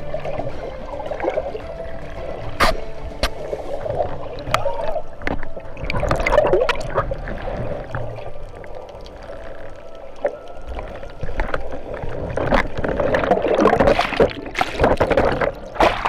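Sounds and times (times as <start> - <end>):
muffled underwater water noise: 0.0 - 16.0
splashing and bubbling water: 0.0 - 16.0.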